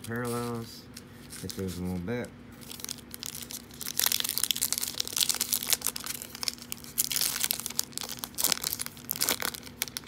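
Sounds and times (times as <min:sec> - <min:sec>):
foil wrapper crinkling and tearing: 0:01.4 - 0:10.0.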